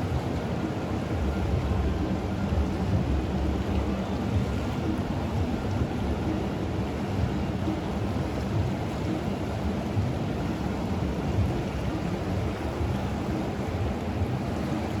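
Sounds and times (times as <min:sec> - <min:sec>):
flowing river water rumble: 0:00.0 - 0:15.0.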